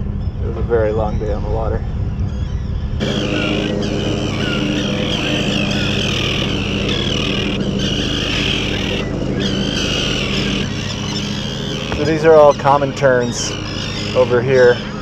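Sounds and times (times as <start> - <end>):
low engine hum: 0.0 - 15.0
terns calling: 0.0 - 15.0.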